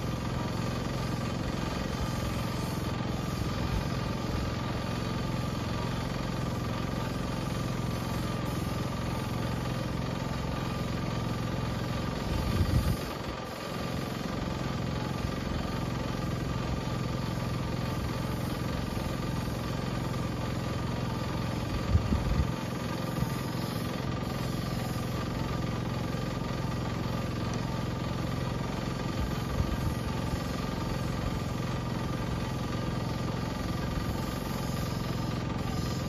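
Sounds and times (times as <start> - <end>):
sprayer pump engine running: 0.0 - 36.0.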